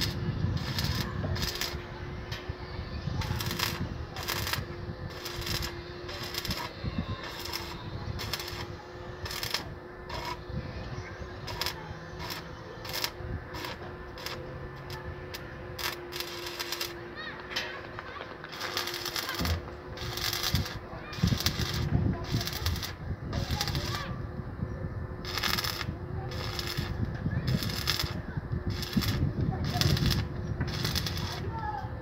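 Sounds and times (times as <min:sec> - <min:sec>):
welding arc crackling and popping: 0:00.0 - 0:02.6, 0:03.2 - 0:10.5, 0:11.4 - 0:24.1, 0:25.2 - 0:32.0.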